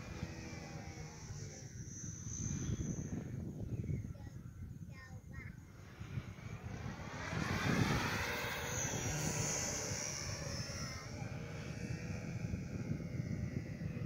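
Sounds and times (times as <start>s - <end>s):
model airplane motor and propeller: 0.0s - 14.0s.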